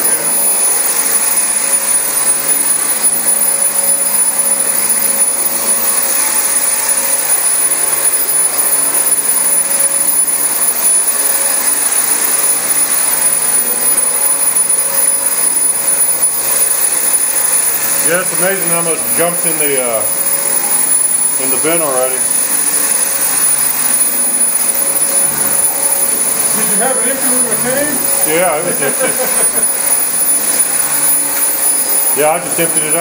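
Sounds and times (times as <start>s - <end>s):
vacuum cleaner running on carpet: 0.0s - 33.0s.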